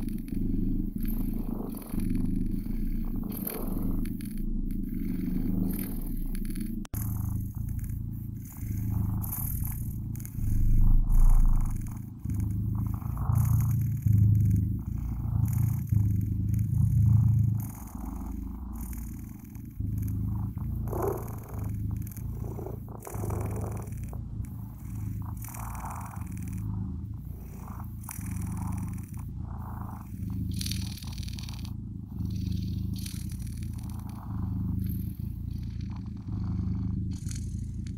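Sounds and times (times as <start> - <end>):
kittens purring: 0.0 - 37.9.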